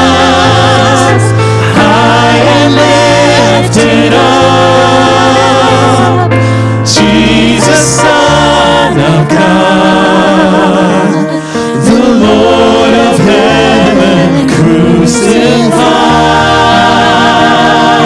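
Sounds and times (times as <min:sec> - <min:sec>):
instrumental accompaniment: 0:00.0 - 0:18.0
worship team singing: 0:00.0 - 0:18.0.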